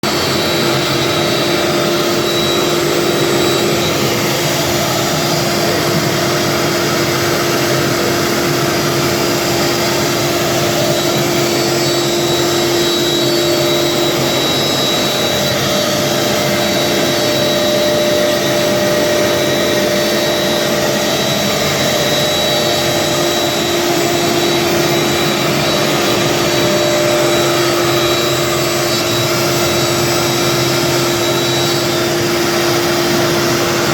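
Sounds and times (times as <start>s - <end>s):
router spindle milling wood: 0.1s - 33.9s.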